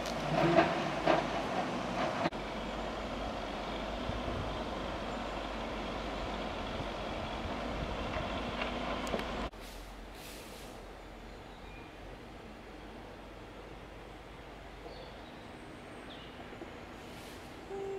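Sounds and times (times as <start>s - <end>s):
traffic rumble: 0.0s - 17.9s.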